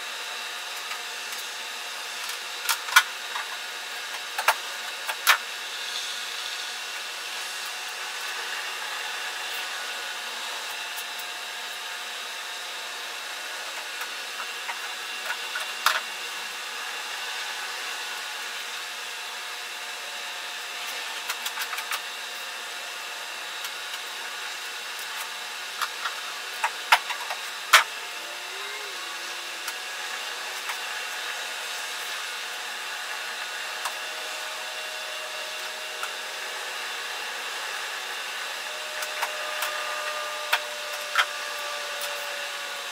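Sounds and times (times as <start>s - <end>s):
steady whirring hiss: 0.0s - 42.9s.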